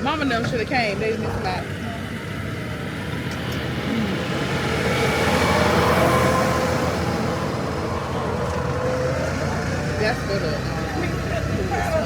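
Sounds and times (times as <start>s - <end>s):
tow vehicle engine and rolling noise: 0.0s - 12.0s.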